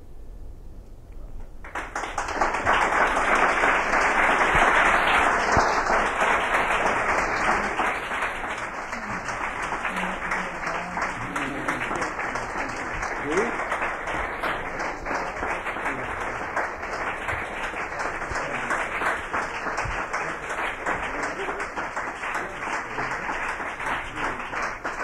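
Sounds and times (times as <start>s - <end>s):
audience applauding: 1.6s - 25.0s.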